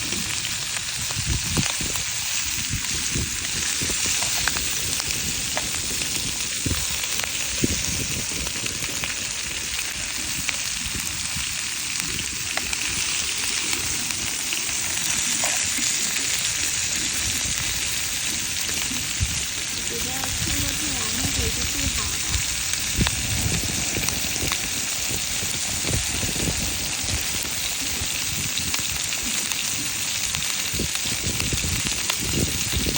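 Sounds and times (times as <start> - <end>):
food sizzling over fire: 0.0 - 32.9
pops and crackles: 0.0 - 32.9.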